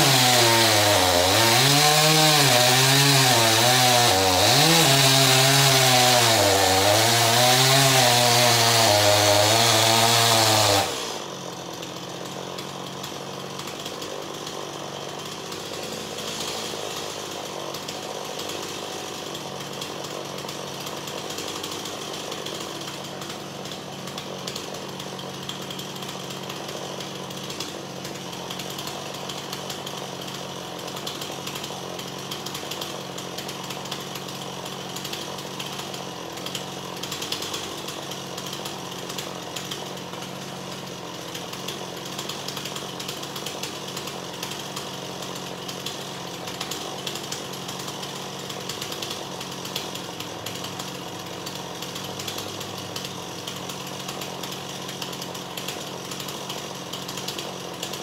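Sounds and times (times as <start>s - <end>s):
chainsaw idling: 0.0s - 58.0s.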